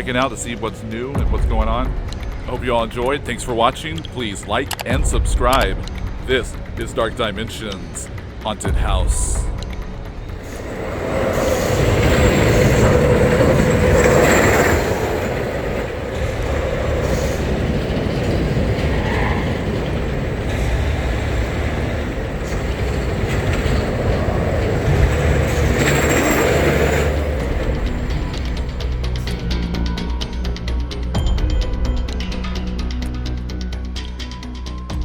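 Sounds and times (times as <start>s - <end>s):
rail vehicle rumbling: 0.0s - 35.0s.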